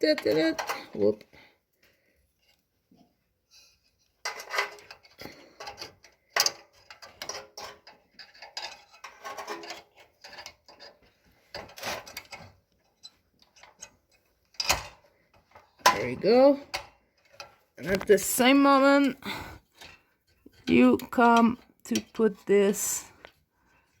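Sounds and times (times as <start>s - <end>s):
small metal parts clicking and scraping: 0.0s - 1.2s, 3.6s - 23.4s.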